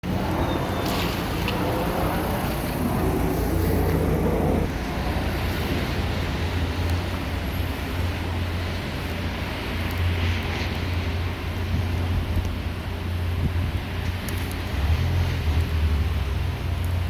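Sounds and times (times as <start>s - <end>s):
mid-pitched mechanical noise: 0.0s - 14.7s
car wash machinery low hum: 0.0s - 17.0s.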